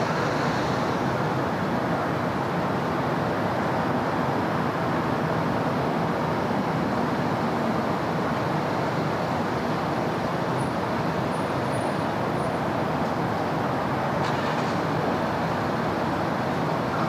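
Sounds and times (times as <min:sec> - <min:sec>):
city road traffic: 0:00.0 - 0:17.0.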